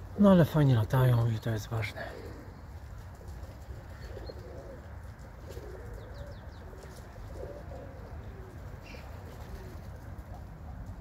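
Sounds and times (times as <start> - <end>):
pigeons cooing: 1.8 - 11.0.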